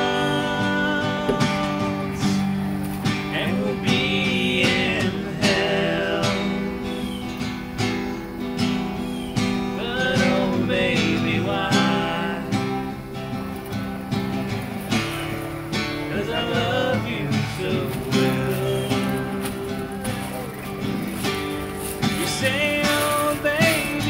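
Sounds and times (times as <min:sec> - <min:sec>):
country song with acoustic guitar: 0:00.0 - 0:24.0.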